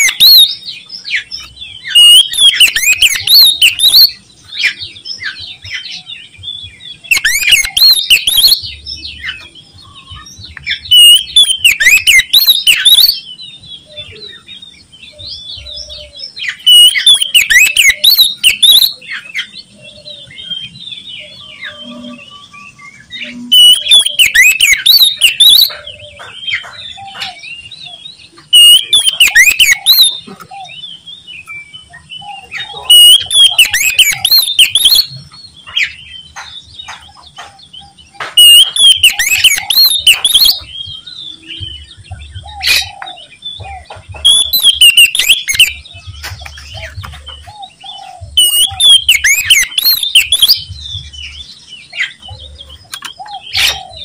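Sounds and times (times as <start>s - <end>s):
magpie-robin singing whistles and trills: 0.0s - 54.0s
soft bird calls: 0.0s - 54.0s.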